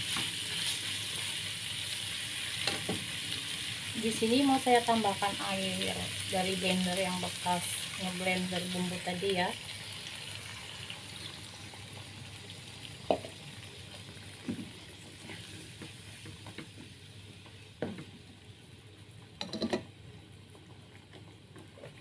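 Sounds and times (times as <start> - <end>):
meat sizzling in a pan: 0.0 - 18.6.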